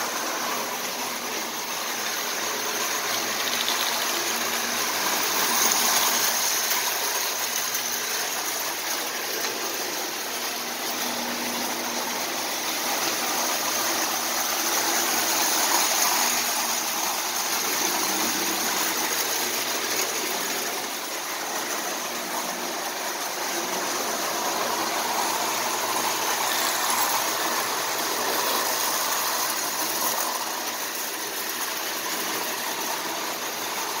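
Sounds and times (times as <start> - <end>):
toy train whirring rattle: 0.0 - 34.0.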